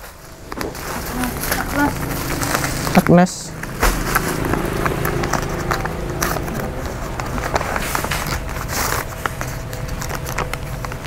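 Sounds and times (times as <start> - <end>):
plastic and paper crinkling: 0.0 - 11.0.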